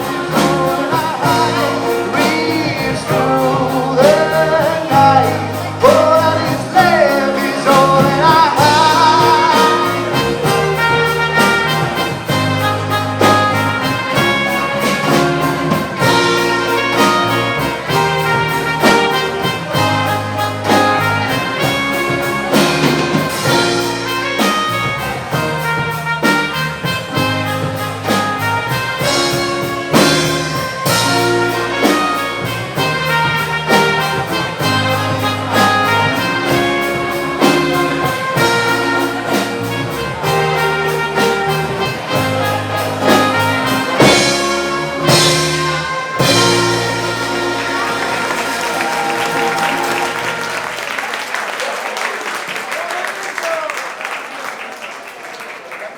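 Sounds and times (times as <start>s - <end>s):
steady drum beat: 0.0s - 51.4s
trumpet and trombone tune: 0.0s - 51.6s.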